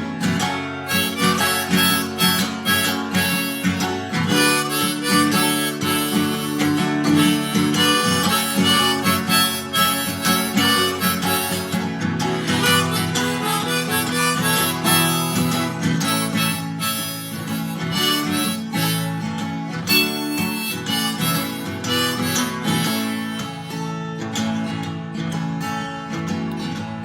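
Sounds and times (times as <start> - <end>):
harmonica solo: 0.0 - 24.0
strummed acoustic guitar: 0.0 - 27.0.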